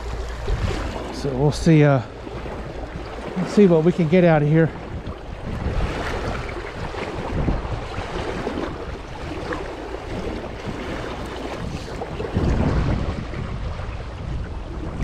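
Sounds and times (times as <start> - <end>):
creek water flowing: 0.0 - 15.0
wind buffeting microphone: 0.0 - 15.0.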